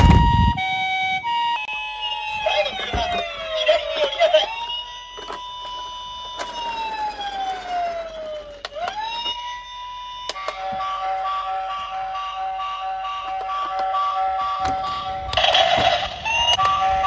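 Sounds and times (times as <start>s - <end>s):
toy siren wailing: 0.0s - 17.0s.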